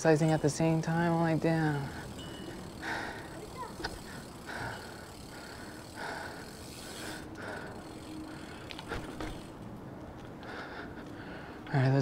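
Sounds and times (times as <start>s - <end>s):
bicycle drivetrain rattling: 0.0s - 12.0s
bicycle tyre road noise: 0.0s - 12.0s.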